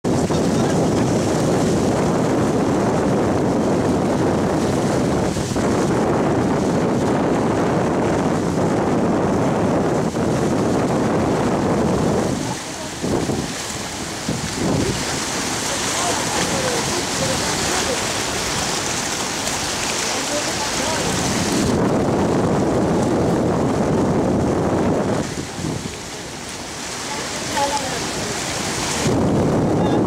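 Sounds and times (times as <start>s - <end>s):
churning surf: 0.0s - 30.0s
wind buffeting microphone: 0.0s - 30.0s.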